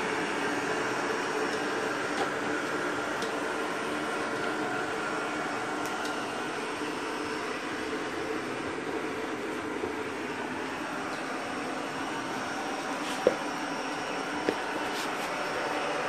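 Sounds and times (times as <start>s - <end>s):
robot vacuum cleaners whirring: 0.0s - 16.0s.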